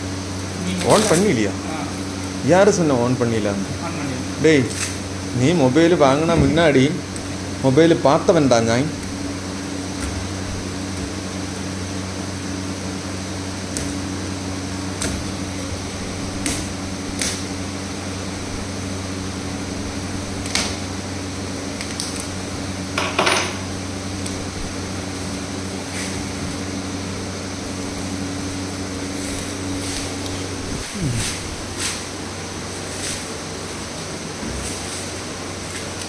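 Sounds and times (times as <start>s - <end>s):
room hum: 0.0s - 36.0s.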